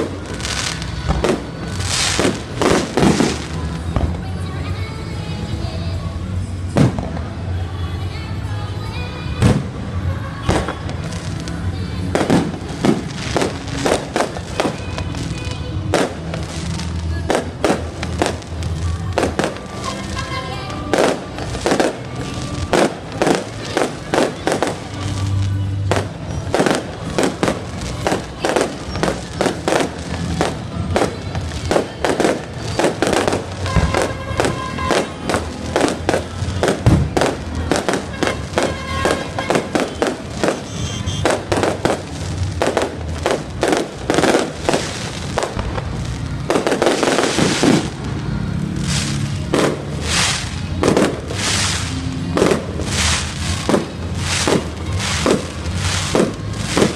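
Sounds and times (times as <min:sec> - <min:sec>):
fireworks bangs and crackles: 0:00.0 - 0:56.9
music: 0:00.0 - 0:56.9.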